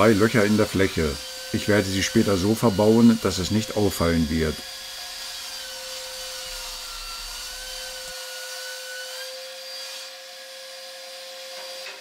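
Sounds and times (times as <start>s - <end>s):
dust extractor whirring: 0.0s - 12.0s.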